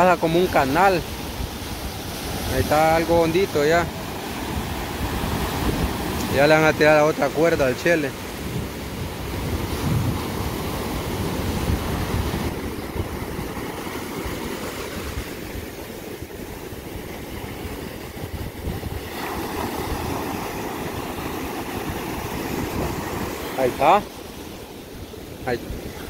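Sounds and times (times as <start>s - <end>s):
surf washing up beach: 0.0s - 26.0s
wind rumbling on microphone: 0.8s - 26.0s.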